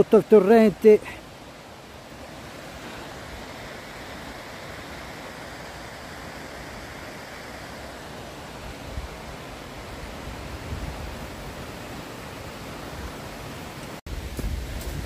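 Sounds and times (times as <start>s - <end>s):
stream of flowing water: 0.0s - 15.0s.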